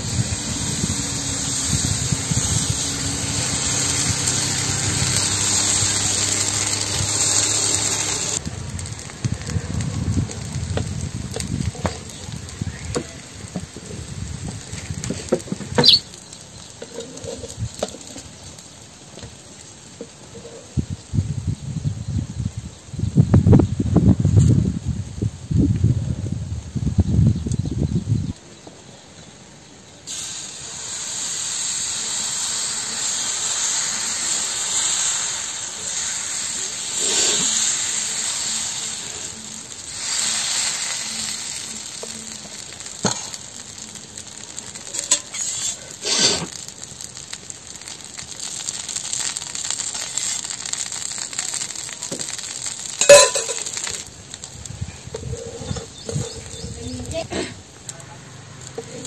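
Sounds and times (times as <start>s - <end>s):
batter sizzling on a griddle: 0.0s - 59.0s.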